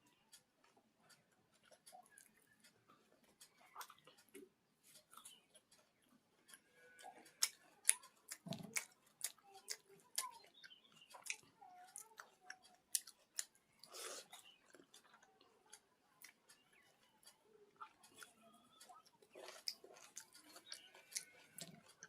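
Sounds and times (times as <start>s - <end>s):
chewing with mouth clicks: 0.0s - 22.0s.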